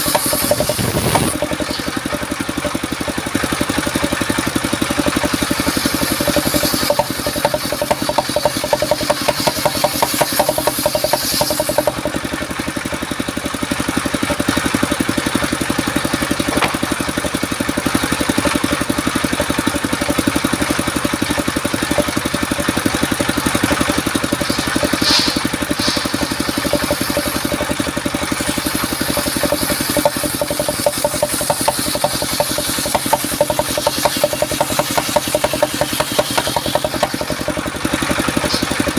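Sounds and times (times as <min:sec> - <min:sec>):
sawmill engine chugging: 0:00.0 - 0:38.9.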